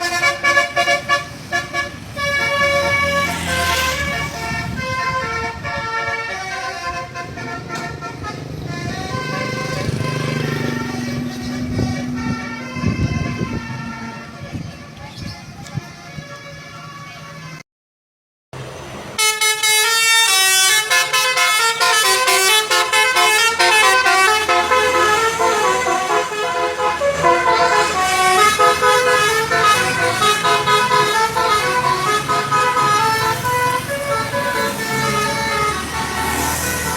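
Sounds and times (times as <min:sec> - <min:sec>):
bus horn playing melody: 0:00.0 - 0:15.1, 0:19.2 - 0:36.9
bus engine running low: 0:00.0 - 0:17.4, 0:18.6 - 0:36.9.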